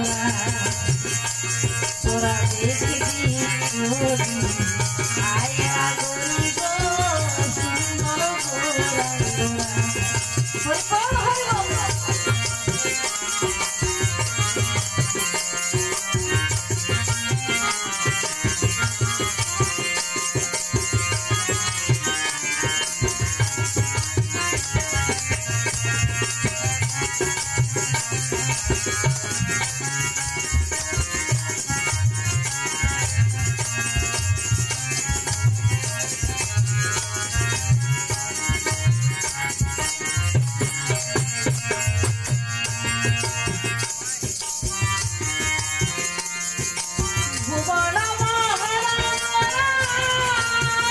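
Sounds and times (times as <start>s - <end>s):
hand drums: 0.0s - 50.9s.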